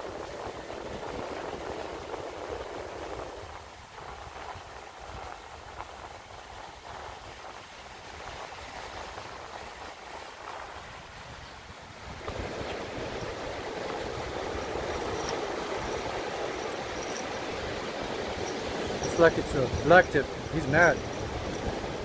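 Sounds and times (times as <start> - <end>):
surf washing on beach: 0.0 - 22.0.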